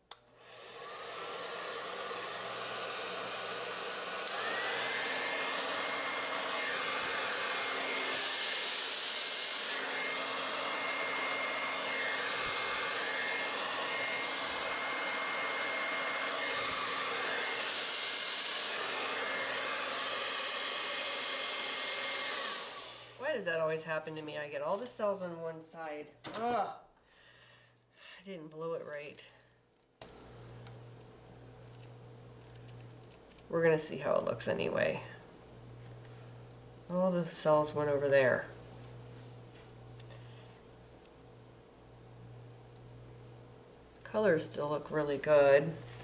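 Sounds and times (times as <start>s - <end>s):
blow dryer running: 0.4s - 24.4s, 30.0s - 46.0s.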